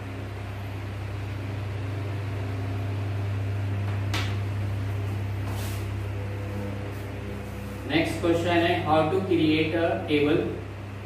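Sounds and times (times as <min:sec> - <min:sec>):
low electrical fan hum: 0:00.0 - 0:11.0.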